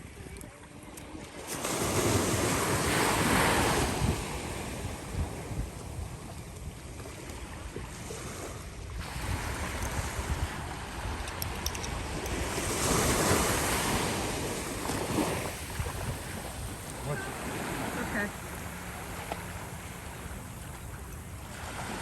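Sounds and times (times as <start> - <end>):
ocean waves breaking: 0.6 - 22.0
wind buffeting microphone: 1.6 - 22.0.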